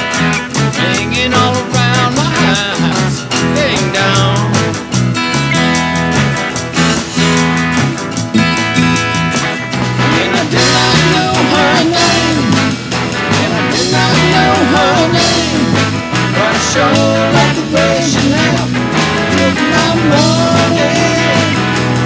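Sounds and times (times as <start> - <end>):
rock and roll band: 0.0 - 22.0.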